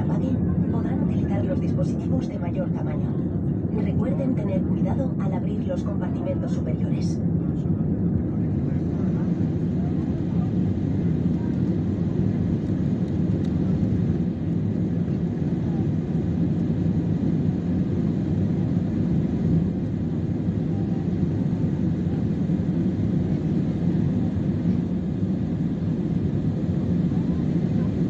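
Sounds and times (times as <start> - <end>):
jet engine drone in cabin: 0.0 - 28.0.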